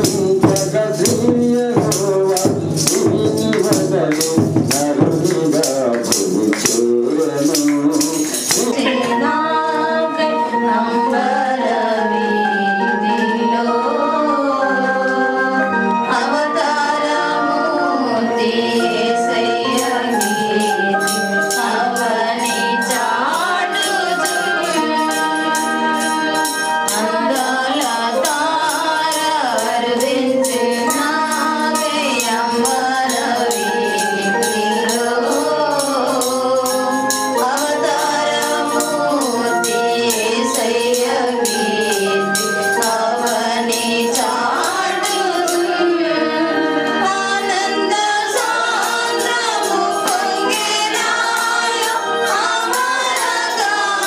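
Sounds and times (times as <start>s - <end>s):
percussion beat: 0.0s - 9.4s, 18.9s - 46.0s, 46.9s - 54.0s
women singing together: 7.5s - 54.0s.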